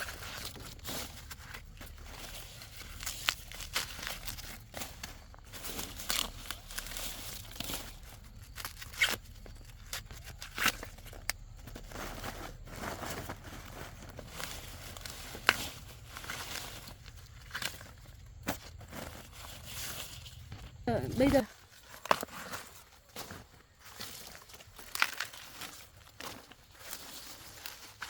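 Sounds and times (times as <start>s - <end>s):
material rustling and tearing: 0.0s - 28.0s.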